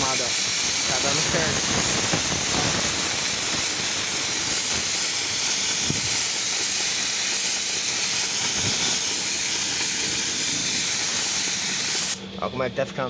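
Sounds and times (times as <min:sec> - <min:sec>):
spray gun hissing: 0:00.0 - 0:12.2.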